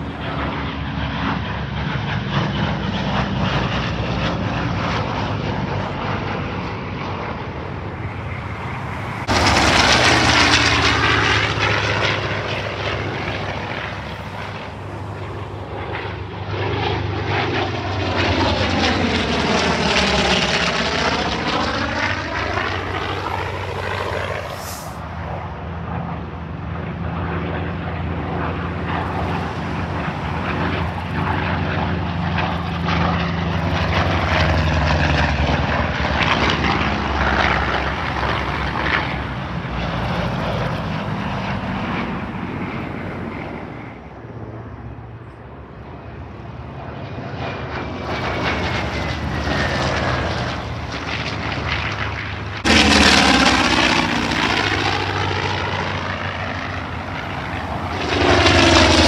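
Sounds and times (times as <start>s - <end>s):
propeller plane engines droning: 0.0s - 59.0s.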